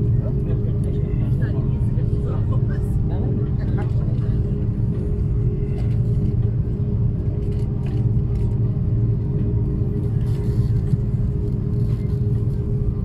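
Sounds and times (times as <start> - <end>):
constant hum: 0.0 - 13.0
vehicle engine rumble: 0.0 - 13.0.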